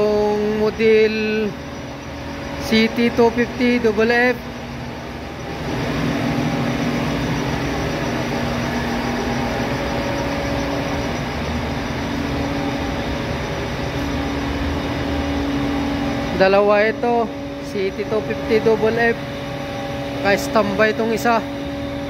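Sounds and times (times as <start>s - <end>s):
air compressor humming: 0.0s - 22.0s.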